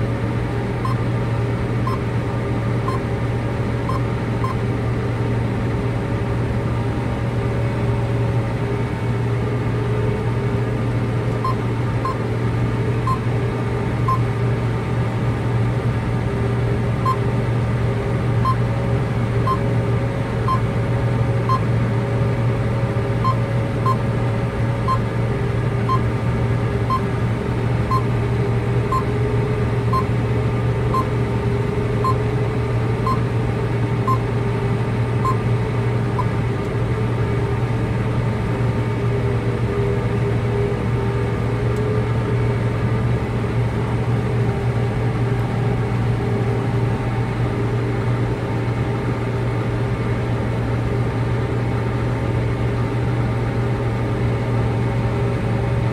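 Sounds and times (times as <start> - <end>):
engine and machinery drone: 0.0 - 55.9.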